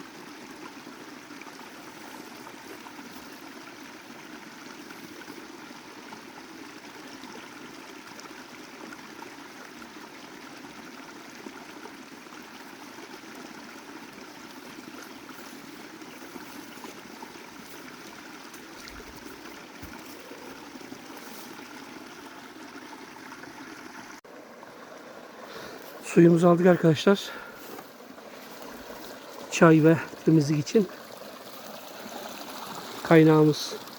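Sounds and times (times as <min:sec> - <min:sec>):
spring water flowing: 0:00.0 - 0:33.9.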